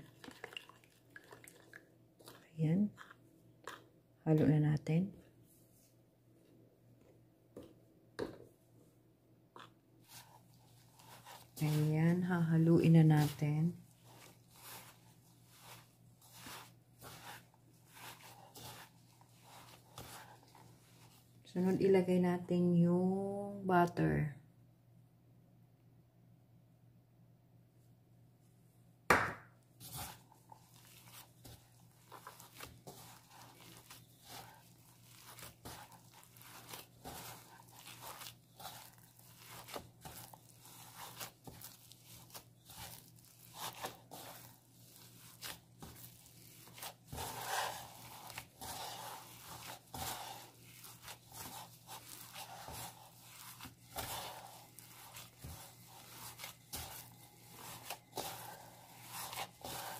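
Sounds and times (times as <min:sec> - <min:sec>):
gloved hands kneading crumbly dough: 0:00.0 - 0:23.9, 0:29.0 - 0:59.9.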